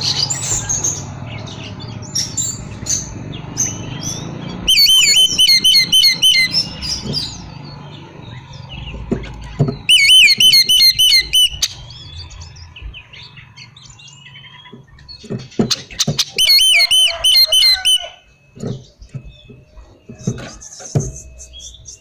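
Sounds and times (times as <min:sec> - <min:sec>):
magpie-robin whistling song: 0:00.0 - 0:09.0, 0:09.6 - 0:22.0
bird chirps and twitters: 0:00.0 - 0:22.0.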